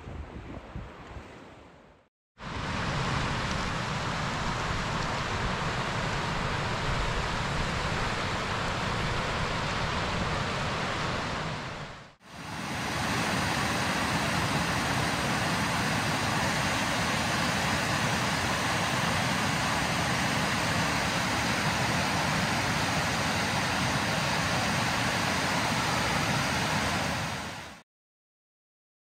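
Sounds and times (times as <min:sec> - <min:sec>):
steady rushing noise: 0:02.4 - 0:27.8.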